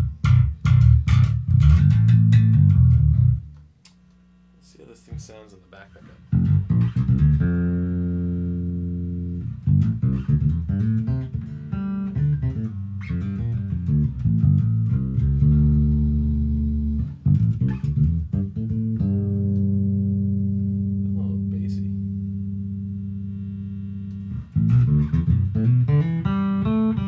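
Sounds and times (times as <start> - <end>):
electric bass played with fingers: 0.0 - 3.7, 6.2 - 27.0.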